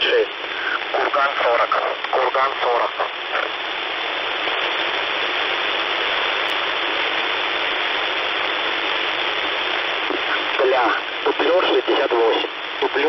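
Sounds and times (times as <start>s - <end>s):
shortwave radio hiss: 0.0s - 13.0s.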